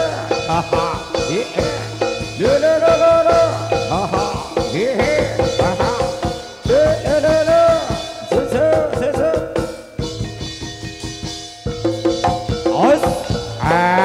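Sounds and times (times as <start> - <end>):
drums beating: 0.0 - 14.0
gamelan melody bending in pitch: 0.0 - 14.0.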